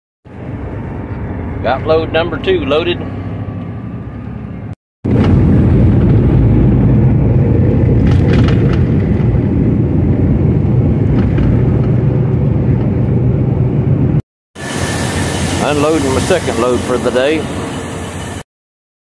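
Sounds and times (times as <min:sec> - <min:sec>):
truck engine and road rumble: 0:00.3 - 0:18.4.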